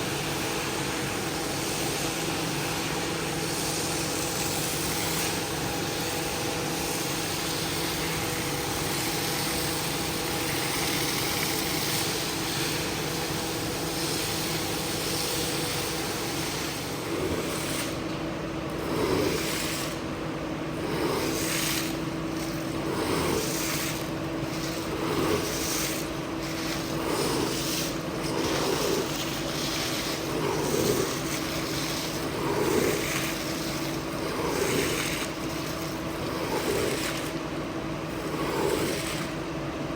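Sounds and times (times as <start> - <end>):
carpet cleaning machine running: 0.0 - 39.9.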